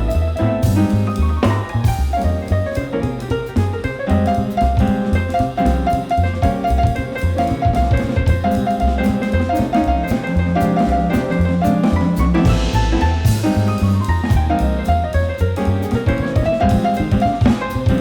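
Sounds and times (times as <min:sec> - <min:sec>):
drum kit: 0:00.0 - 0:18.0
jazz melody line: 0:00.0 - 0:18.0
piano comping: 0:00.0 - 0:18.0
upright bass walking: 0:00.0 - 0:18.0.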